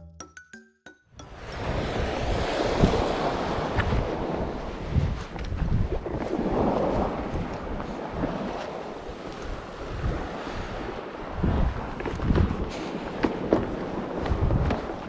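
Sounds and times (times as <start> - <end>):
sea-front rush: 1.2 - 15.0
wind gusting against microphone: 1.3 - 15.0.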